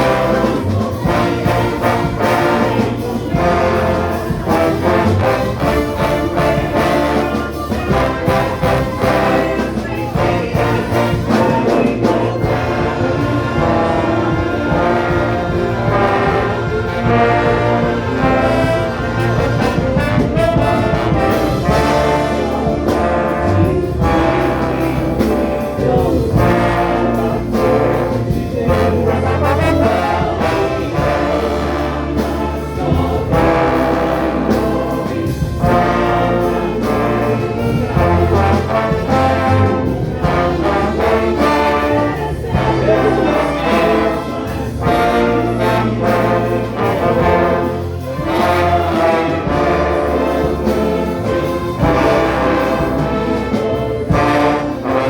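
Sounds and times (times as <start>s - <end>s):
choir faintly singing: 0.0s - 55.0s
orchestra brass playing hymn: 0.0s - 55.0s.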